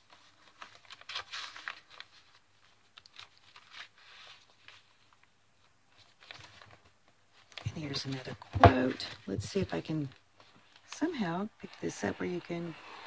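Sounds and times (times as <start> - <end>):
paper rustling: 0.0 - 11.1.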